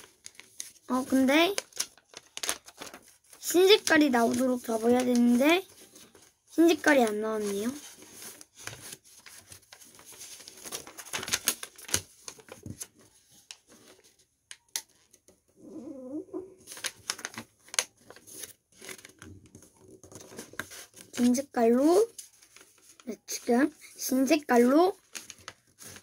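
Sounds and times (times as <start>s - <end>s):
paper rustling and crinkling: 0.0s - 15.4s, 16.6s - 26.0s.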